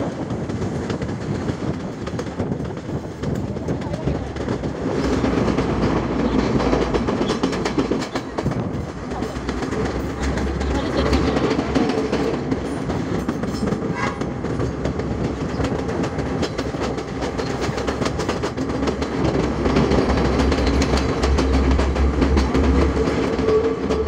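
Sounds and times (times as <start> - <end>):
train rumbling: 0.0 - 24.0
wheels clattering over rails: 0.0 - 24.0.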